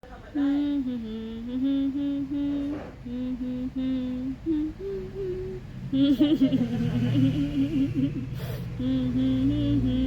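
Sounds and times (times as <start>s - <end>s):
humming vocal notes: 0.3s - 10.0s.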